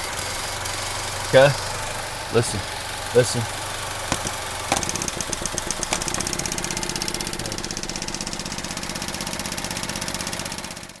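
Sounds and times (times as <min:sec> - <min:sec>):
car engine idling with ticking: 0:00.0 - 0:11.0.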